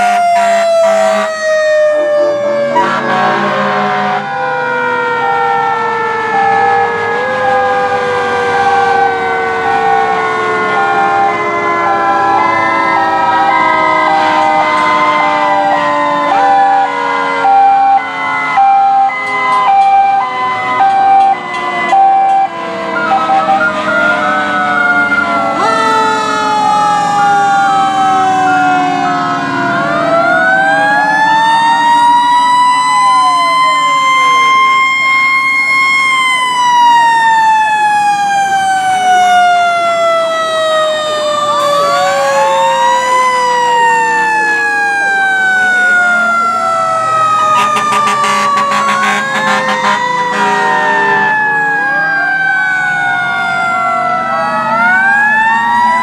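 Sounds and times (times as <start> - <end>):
fire engine sirens wailing: 0.0 - 56.0
truck engines rumbling: 0.0 - 56.0.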